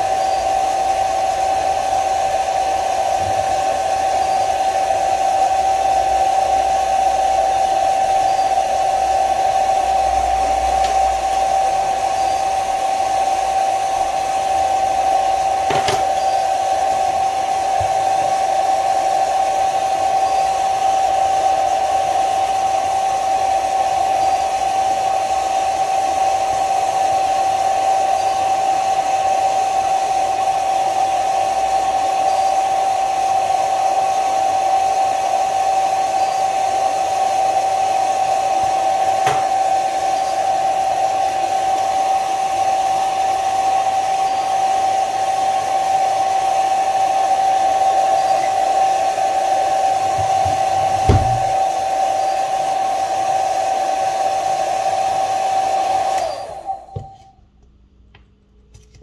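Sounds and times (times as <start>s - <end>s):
hot-air blower whining: 0.0s - 57.4s.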